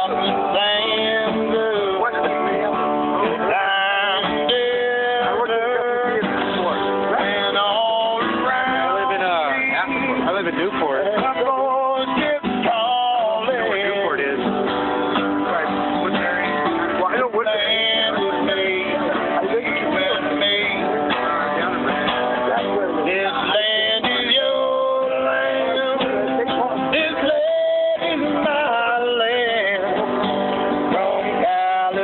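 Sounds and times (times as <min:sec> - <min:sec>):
man singing: 0:00.0 - 0:14.5, 0:16.2 - 0:32.0
acoustic guitar strumming: 0:00.0 - 0:32.0.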